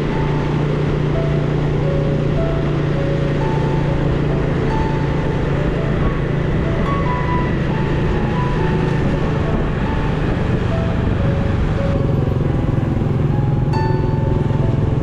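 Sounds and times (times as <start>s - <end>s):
background music melody: 0.0s - 15.0s
motorcycle engine rumble: 0.0s - 15.0s.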